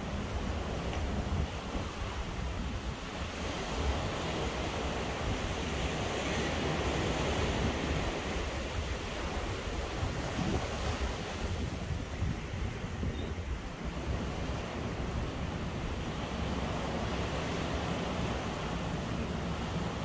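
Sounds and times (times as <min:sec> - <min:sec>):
ocean surf washing ashore: 0:00.0 - 0:20.0
wind on microphone: 0:00.0 - 0:20.0.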